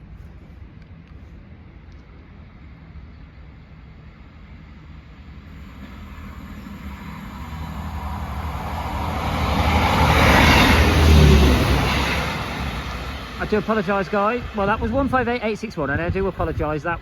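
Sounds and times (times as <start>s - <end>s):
diesel train engine drone: 0.0s - 17.0s
rail noise: 0.0s - 17.0s.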